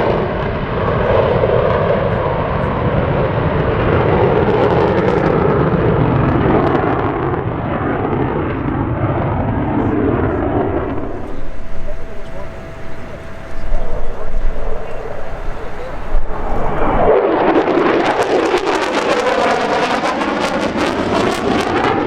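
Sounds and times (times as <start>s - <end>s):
fighter jet engine roar: 0.0s - 22.0s.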